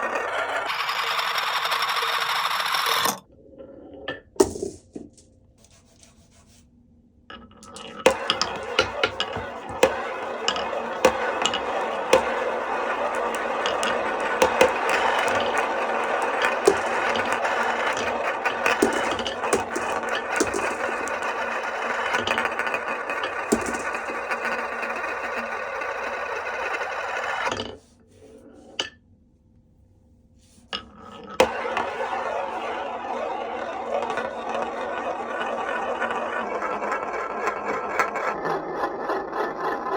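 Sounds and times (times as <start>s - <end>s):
marbles rolling on wooden run: 0.0s - 3.3s, 7.3s - 27.8s, 30.8s - 39.9s.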